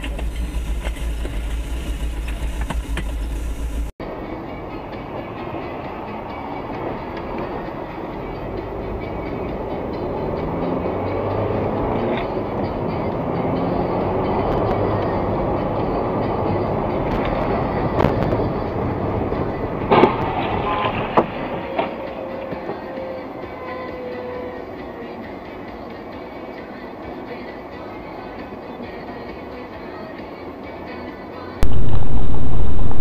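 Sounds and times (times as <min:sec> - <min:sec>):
train rumbling by: 0:00.0 - 0:33.0.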